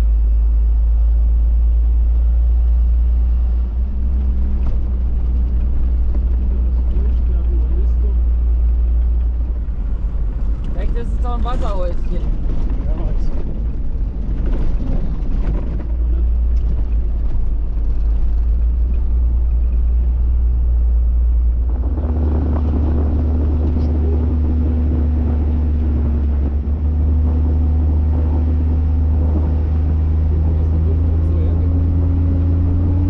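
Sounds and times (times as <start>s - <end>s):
diesel truck engine drone: 0.0s - 33.0s.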